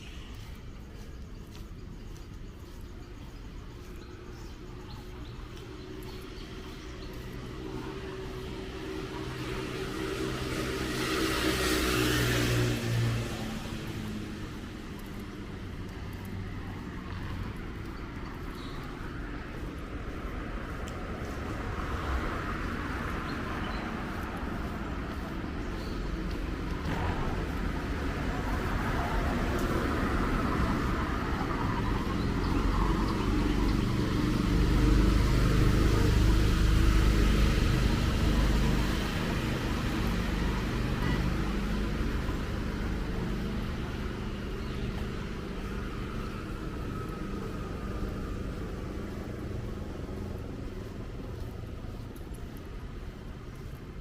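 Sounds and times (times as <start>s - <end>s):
vehicle passing by: 2.6s - 54.0s.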